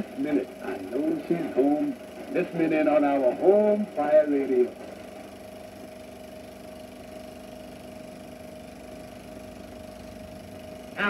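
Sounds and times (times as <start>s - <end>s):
film projector hum and whine: 0.0s - 11.0s.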